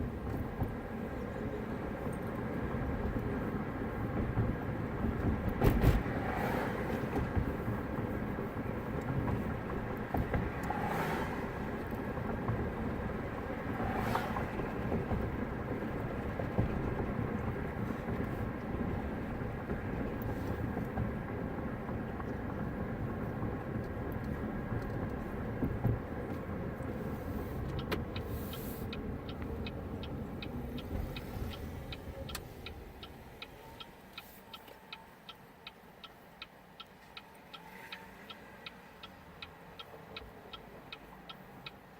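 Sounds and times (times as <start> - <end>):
car road and engine noise: 0.0 - 41.9
turn signal ticking: 0.0 - 41.9.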